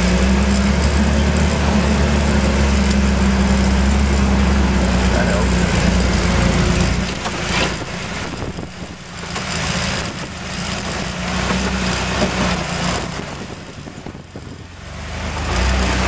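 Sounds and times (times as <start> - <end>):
rushing rattling noise: 0.0 - 14.7
engine humming: 0.0 - 16.0.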